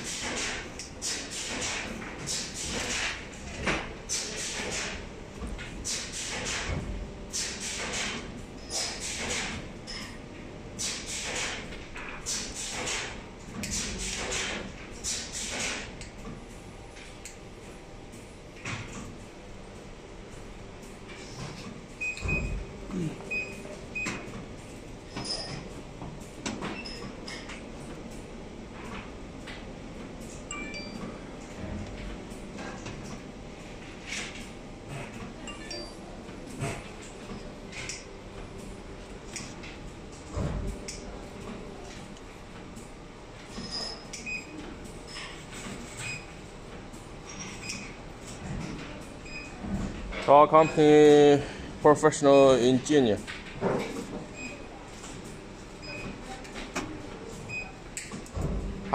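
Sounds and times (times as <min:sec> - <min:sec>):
factory hum and hiss: 0:00.0 - 0:58.9.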